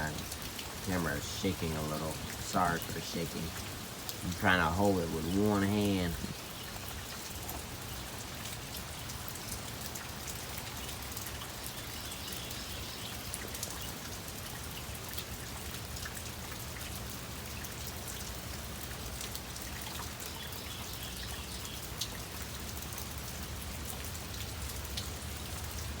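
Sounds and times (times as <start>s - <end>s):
rain drops ticking: 0.0s - 26.0s.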